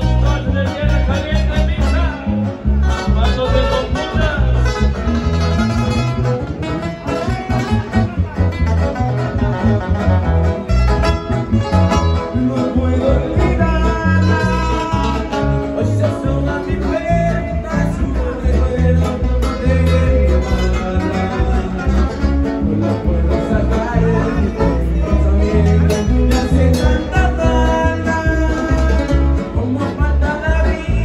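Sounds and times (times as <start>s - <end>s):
man singing into microphone: 0.0s - 6.1s, 11.9s - 31.0s
band playing bass and guitar: 0.0s - 31.0s.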